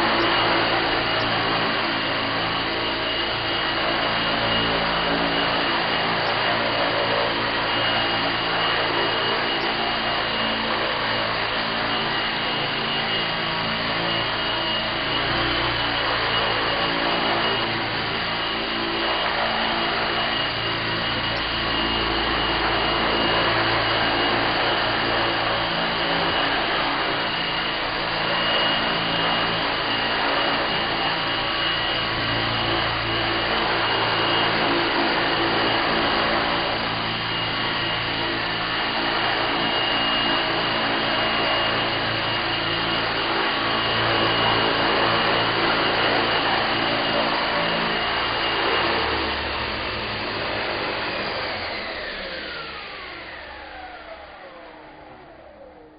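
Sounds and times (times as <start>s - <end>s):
rc helicopter motor whine: 0.0s - 55.9s.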